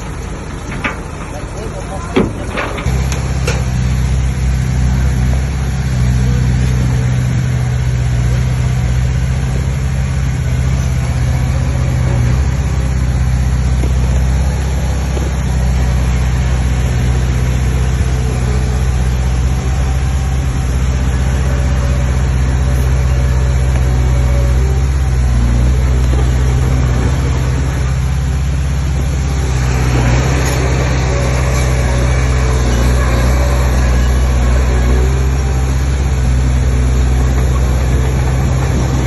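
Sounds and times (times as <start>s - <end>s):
heavy diesel engine droning: 0.0s - 39.0s.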